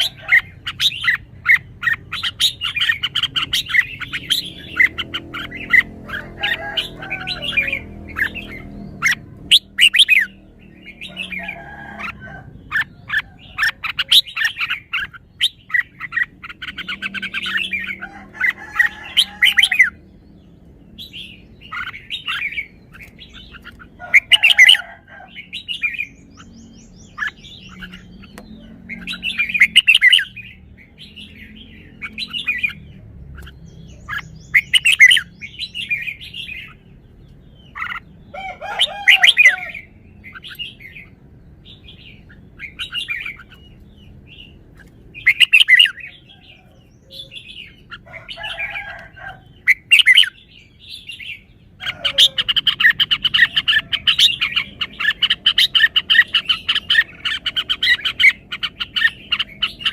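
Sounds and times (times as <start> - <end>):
bird singing chirps and warbles: 0.0 - 59.9.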